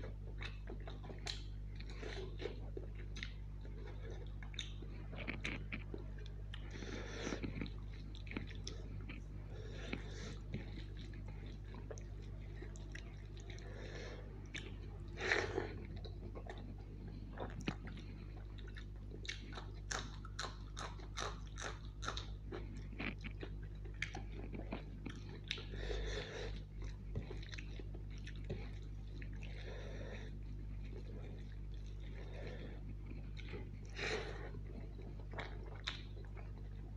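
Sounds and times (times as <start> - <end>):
chewing rice with wet mouth smacks: 0.0 - 36.9.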